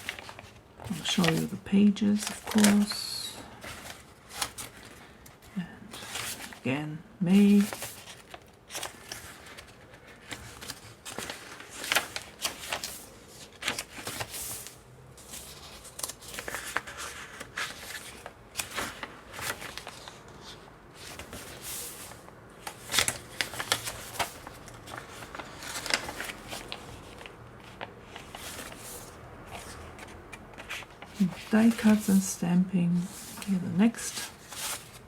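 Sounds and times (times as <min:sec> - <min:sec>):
paper pages rustling: 0:00.0 - 0:06.6, 0:07.3 - 0:35.0.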